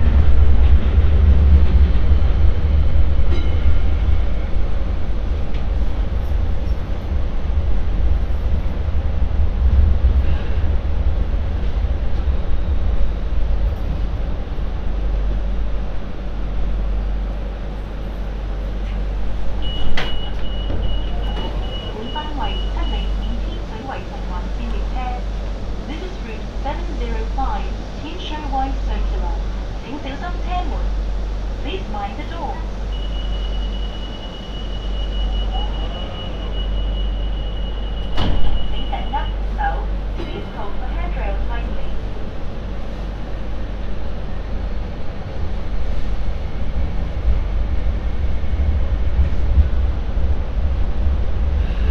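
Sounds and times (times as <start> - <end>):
light rail train rumbling: 0.0 - 51.9.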